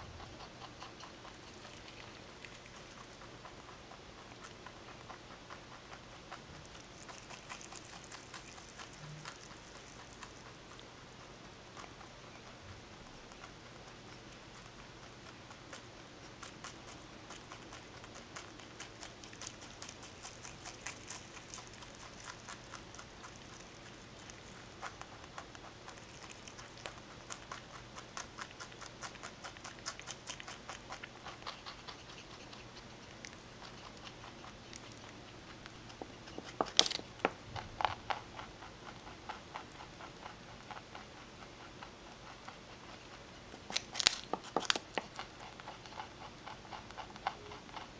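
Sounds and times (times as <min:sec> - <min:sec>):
rabbit chewing stems: 0:00.0 - 0:47.9.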